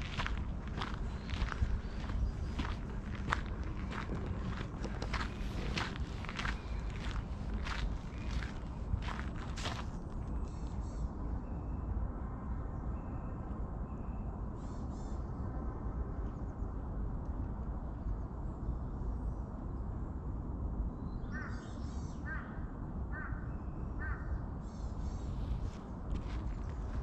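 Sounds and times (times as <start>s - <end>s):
steady low rumble: 0.0s - 21.2s, 24.4s - 27.0s.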